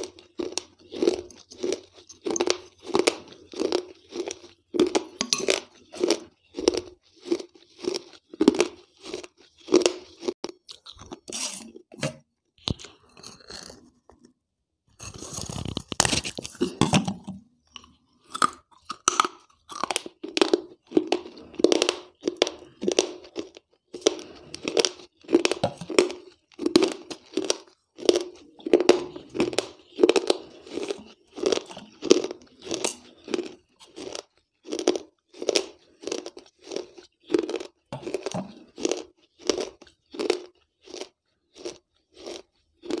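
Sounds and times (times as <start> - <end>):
chewing crunchy clay: 0.0 - 11.9, 17.6 - 43.0.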